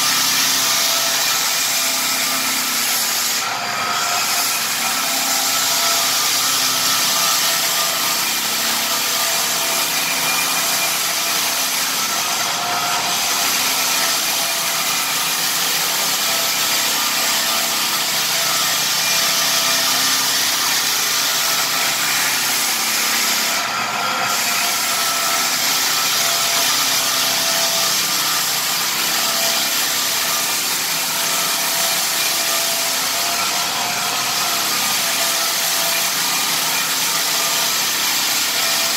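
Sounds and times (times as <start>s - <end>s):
floor sander motor whine: 0.0s - 38.9s.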